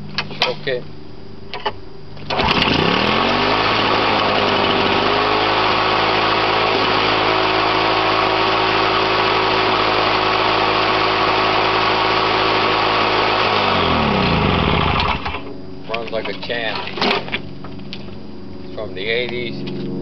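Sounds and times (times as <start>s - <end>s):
lawn mower engine running: 2.2s - 18.2s.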